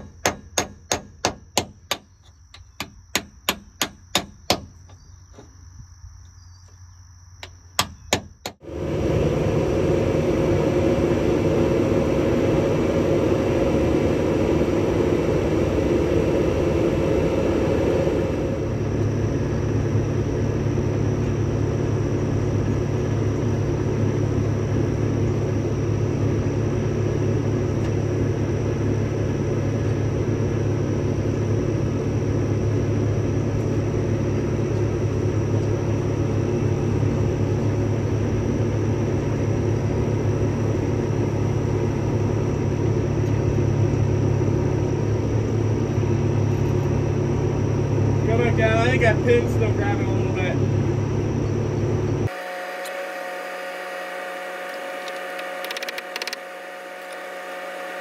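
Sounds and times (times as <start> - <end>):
heavy machine engine running: 8.4 - 58.0.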